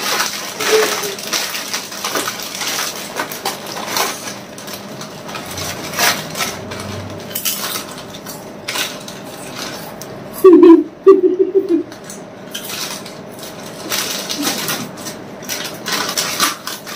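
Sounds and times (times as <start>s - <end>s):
chip packets crinkling: 0.0s - 10.0s, 12.0s - 16.9s.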